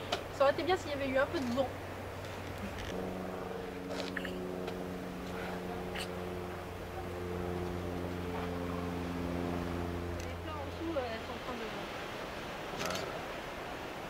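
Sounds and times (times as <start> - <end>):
low drone of held tones: 0.0 - 12.1
low hum: 0.0 - 14.0.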